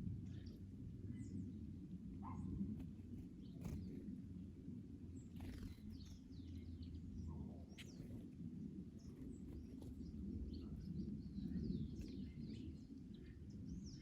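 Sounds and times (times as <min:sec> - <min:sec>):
low rumble of wind: 0:00.0 - 0:14.0.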